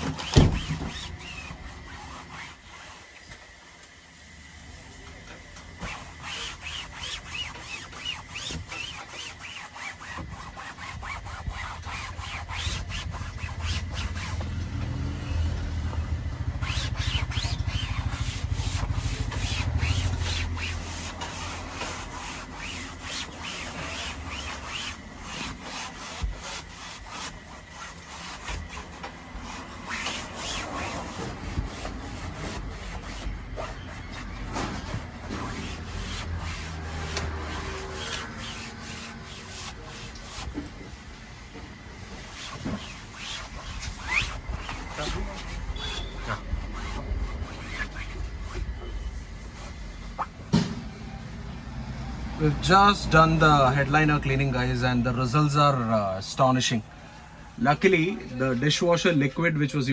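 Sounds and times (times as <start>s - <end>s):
cloth rubbing on fabric: 0.0s - 3.2s, 4.1s - 58.8s.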